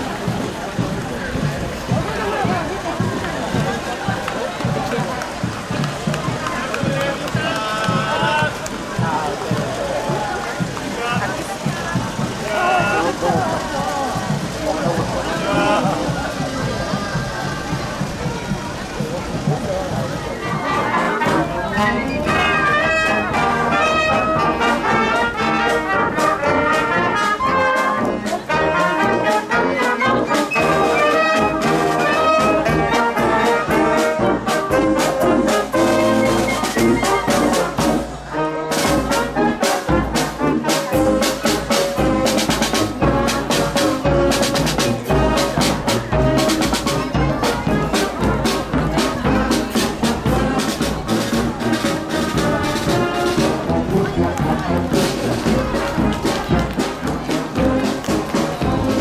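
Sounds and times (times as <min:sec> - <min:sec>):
drum beats: 0:00.0 - 0:59.0
marching brass band playing: 0:00.0 - 0:59.0.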